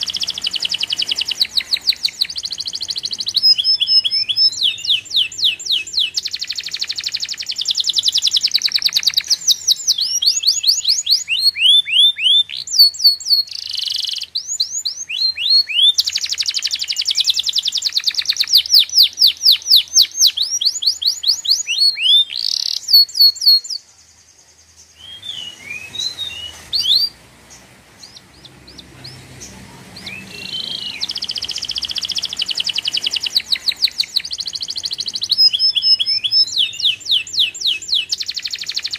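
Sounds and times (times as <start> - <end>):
songbird trilling: 0.0 - 24.0, 24.8 - 38.9.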